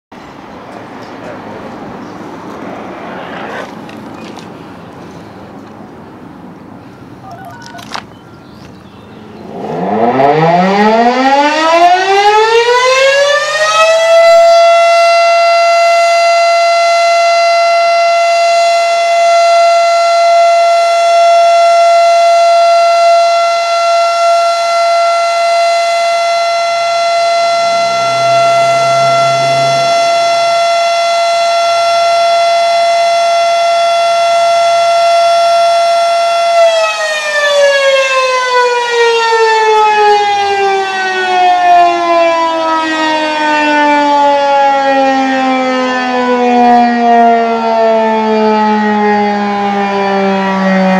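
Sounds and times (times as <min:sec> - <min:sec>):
warning siren wailing: 0:06.8 - 0:50.9.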